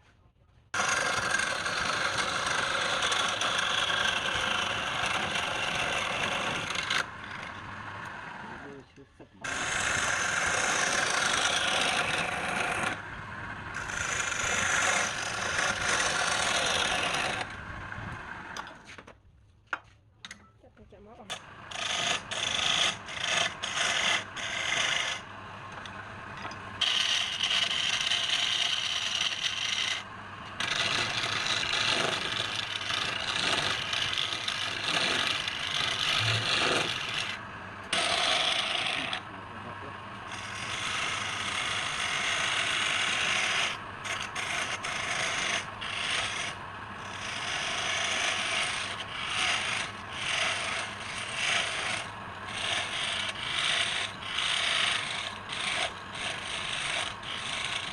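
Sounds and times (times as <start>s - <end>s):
lathe tool scraping spinning wood: 0.8s - 19.1s, 21.2s - 57.9s.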